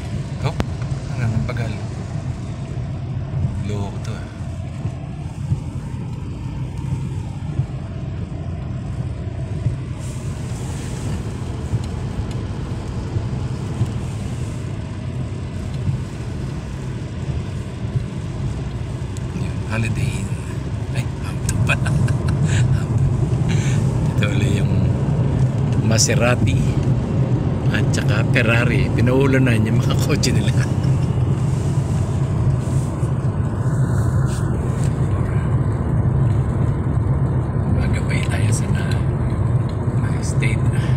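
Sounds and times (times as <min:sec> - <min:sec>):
car driving on wet road: 0:00.0 - 0:40.9.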